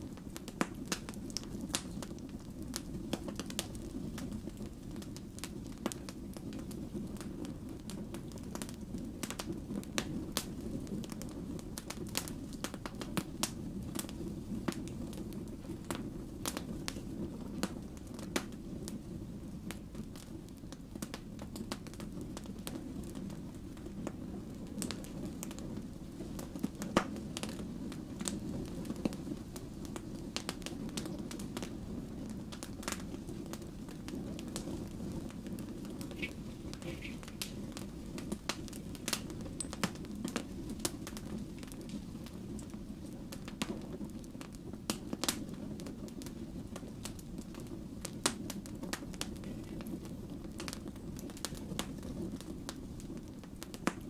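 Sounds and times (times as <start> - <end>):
firewood crackling and popping: 0.0 - 54.0
low roar of flames: 0.0 - 54.0.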